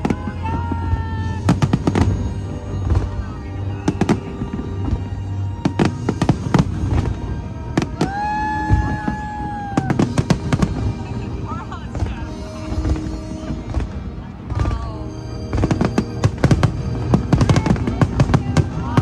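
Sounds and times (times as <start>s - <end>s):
background music: 0.0s - 19.0s
fireworks exploding: 0.0s - 19.0s.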